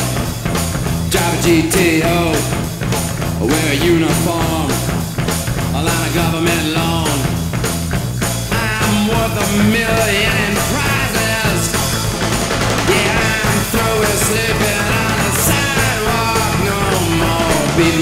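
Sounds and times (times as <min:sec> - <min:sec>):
bass: 0:00.0 - 0:18.0
drum beat: 0:00.0 - 0:18.0
rock music with singing: 0:00.0 - 0:18.0.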